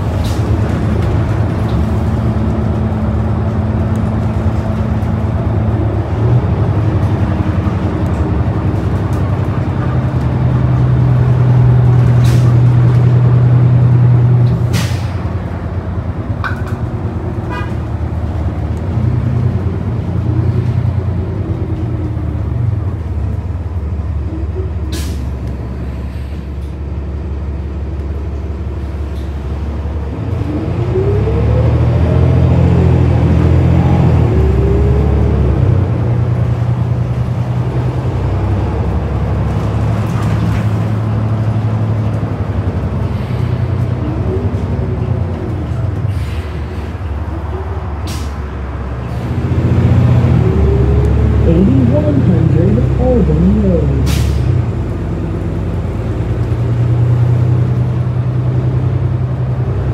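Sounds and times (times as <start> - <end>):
bus engine drone: 0.0 - 59.9.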